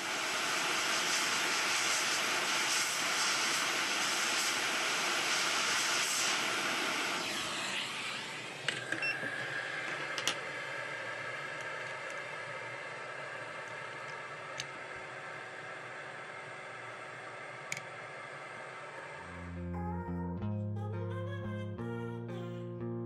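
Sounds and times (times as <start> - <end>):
hot air blower hissing: 0.0 - 19.4.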